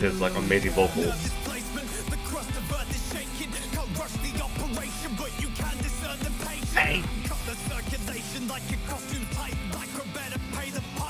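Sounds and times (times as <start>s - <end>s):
rapping over drums and rock backing: 0.0s - 11.0s.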